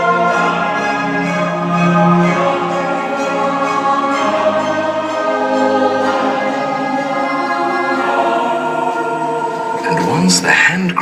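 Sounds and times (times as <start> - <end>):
orchestral music with choir: 0.0 - 11.0.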